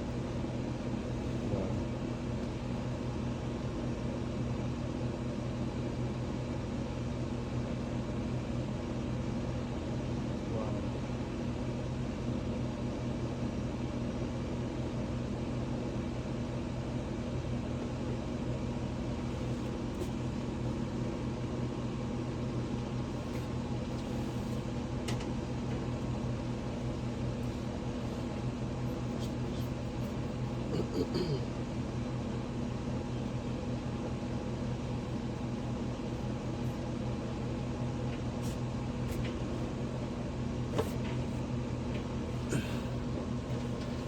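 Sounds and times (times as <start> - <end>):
hvac equipment humming: 0.0 - 44.0.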